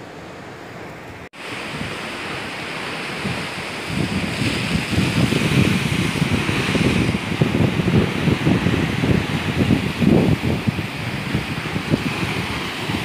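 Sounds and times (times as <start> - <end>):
wind buffeting microphone: 1.3 - 13.0
surf breaking on rocks: 1.4 - 13.0.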